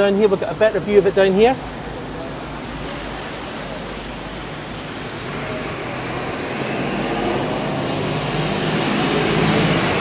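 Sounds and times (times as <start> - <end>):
rain and tyres on wet street: 0.0 - 10.0
vehicle engine: 1.5 - 10.0.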